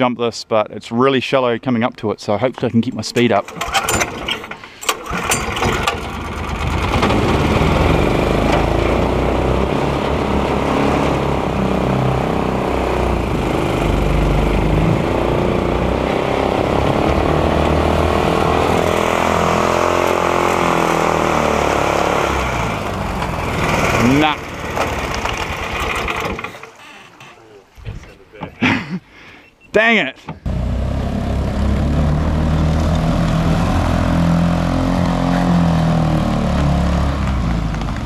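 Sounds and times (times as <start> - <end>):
small petrol boat engine running hard: 3.5 - 26.9, 30.5 - 38.0.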